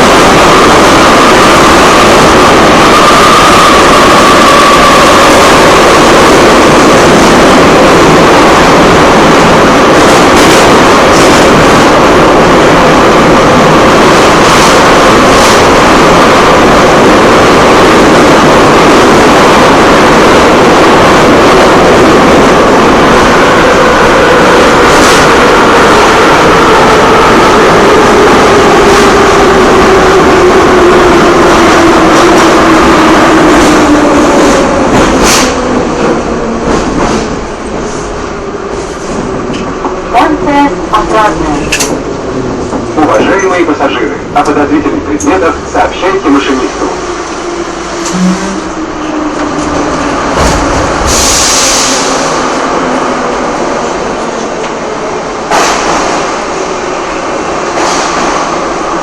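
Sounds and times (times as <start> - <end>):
train rumbling inside carriage: 0.0 - 59.0.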